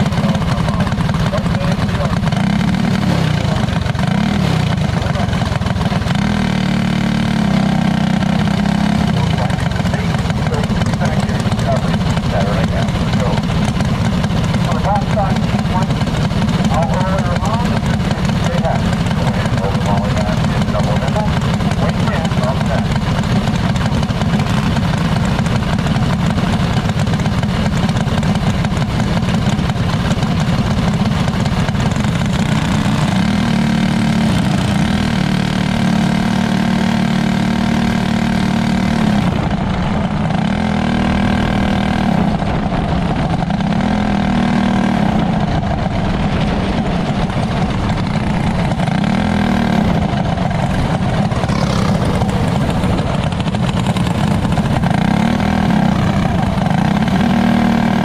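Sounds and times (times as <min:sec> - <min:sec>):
sprint car engine revving: 0:00.0 - 0:58.0.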